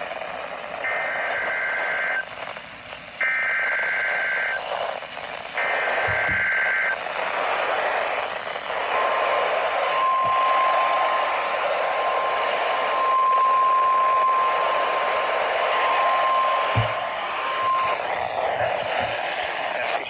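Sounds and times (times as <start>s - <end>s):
radio hiss: 0.0s - 20.0s.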